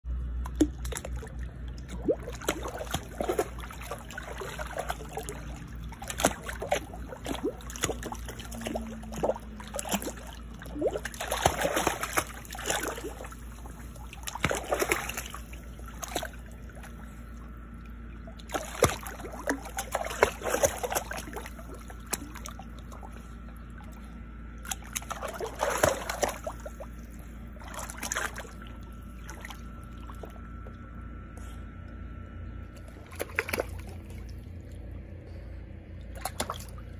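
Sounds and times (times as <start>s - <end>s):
steady low rumble: 0.1s - 36.9s
water sloshing and splashing: 0.2s - 31.0s, 32.6s - 36.9s.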